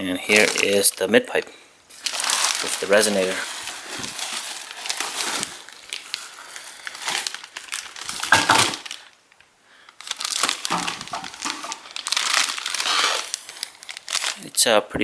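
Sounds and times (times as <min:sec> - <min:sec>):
plastic wrapping crinkling: 0:00.0 - 0:14.7.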